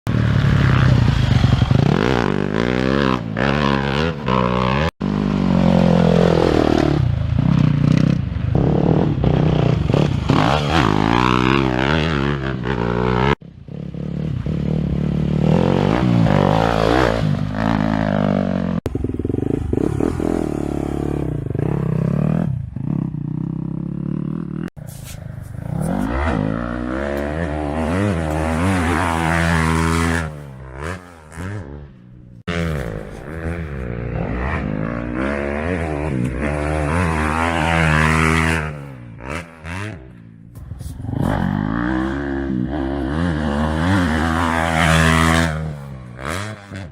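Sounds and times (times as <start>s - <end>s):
dirt bike engines revving: 0.1s - 46.9s.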